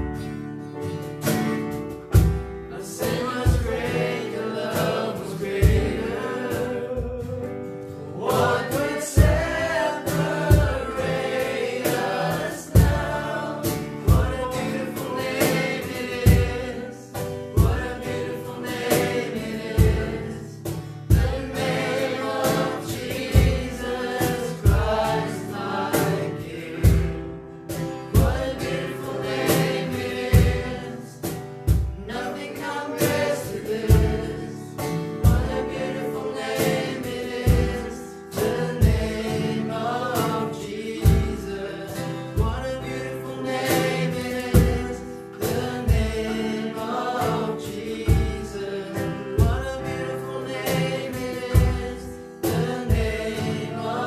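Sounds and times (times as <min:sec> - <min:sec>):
acoustic guitar: 0:00.0 - 0:54.0
keyboard: 0:00.0 - 0:54.0
men singing: 0:02.6 - 0:54.0.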